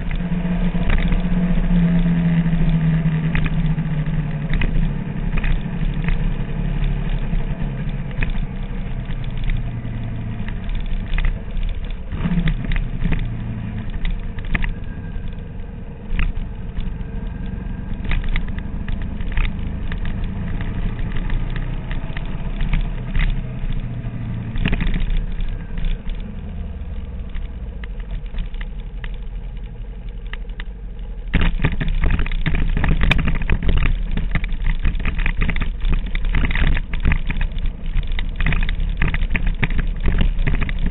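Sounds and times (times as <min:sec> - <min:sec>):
motorcycle engine at low revs: 0:00.0 - 0:40.9
tyres crunching on gravel: 0:00.0 - 0:40.9.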